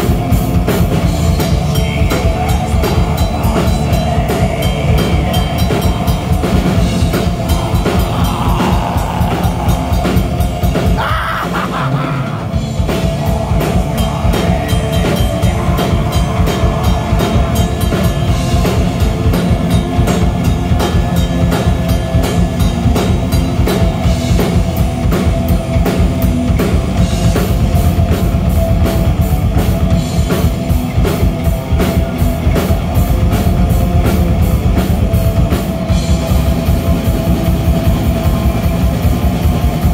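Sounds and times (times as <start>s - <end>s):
distorted electric guitars: 0.0s - 39.9s
fast drumming: 0.0s - 39.9s.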